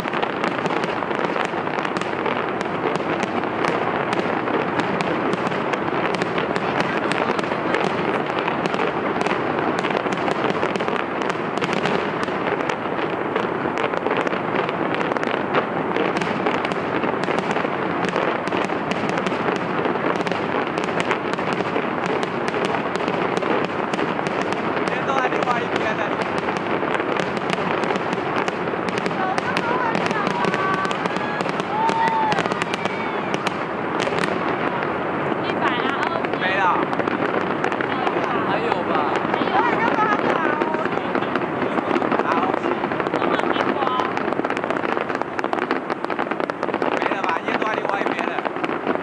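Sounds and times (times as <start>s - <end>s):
fireworks bursts and crackles: 0.0s - 49.0s.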